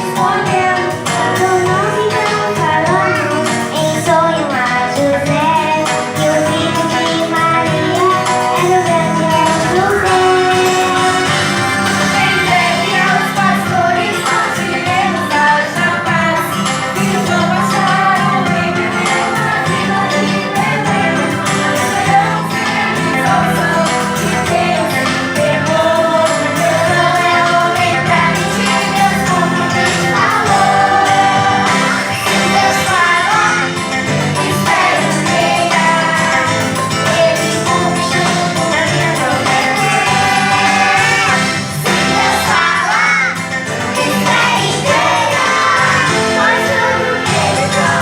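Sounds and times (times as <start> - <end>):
choir singing: 0.0 - 48.0
instrumental accompaniment: 0.0 - 48.0.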